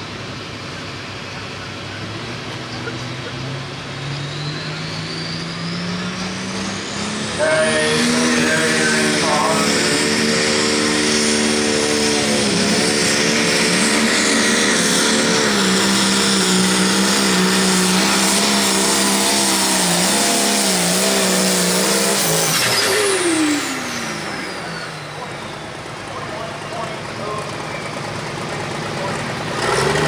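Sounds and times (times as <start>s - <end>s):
diesel engine at full throttle: 0.0s - 30.0s.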